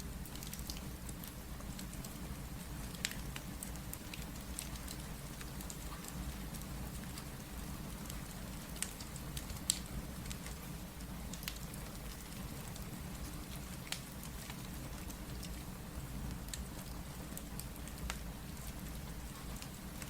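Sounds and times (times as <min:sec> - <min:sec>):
steady rain: 0:00.0 - 0:20.0
wood fire crackling and popping: 0:00.1 - 0:20.0.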